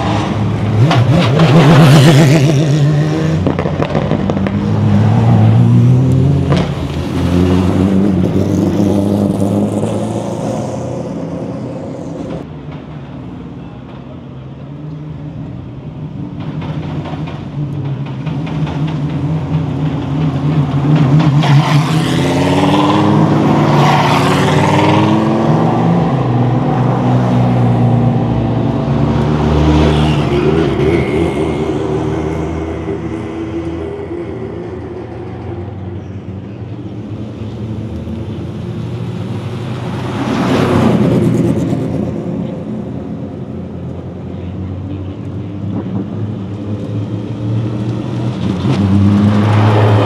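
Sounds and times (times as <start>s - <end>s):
race car revving up: 0.0s - 12.4s, 16.6s - 44.2s, 45.6s - 50.0s
race car engines running: 0.0s - 50.0s.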